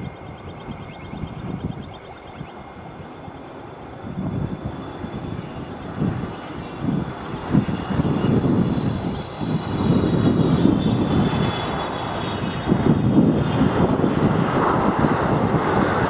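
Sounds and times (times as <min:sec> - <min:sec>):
high jet engine whine: 0:00.0 - 0:16.0
jet engines rumbling: 0:00.0 - 0:16.0.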